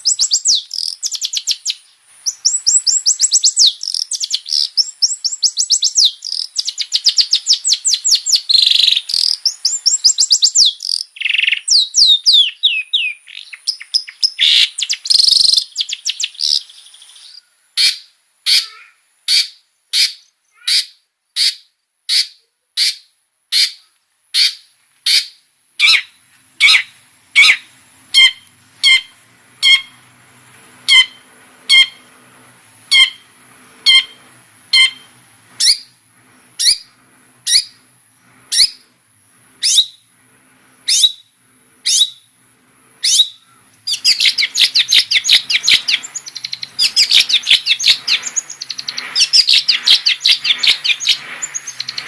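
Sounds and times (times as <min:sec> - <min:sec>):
bird singing loudly: 0:00.0 - 0:30.0, 0:30.9 - 0:32.1, 0:32.9 - 0:35.9, 0:39.6 - 0:40.0, 0:40.9 - 0:42.3, 0:43.0 - 0:52.0
sharp downward-sweeping bird calls: 0:00.0 - 0:30.1, 0:30.8 - 0:32.1, 0:32.9 - 0:36.0, 0:36.6 - 0:37.9, 0:38.5 - 0:38.9, 0:39.6 - 0:40.1, 0:40.8 - 0:42.4, 0:43.0 - 0:52.0.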